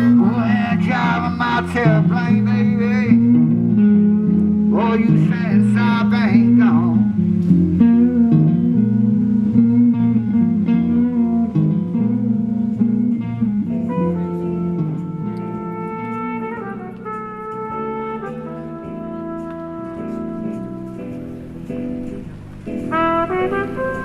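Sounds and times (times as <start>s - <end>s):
blues guitar playing: 0.0s - 24.0s
long held instrument notes: 0.0s - 24.0s.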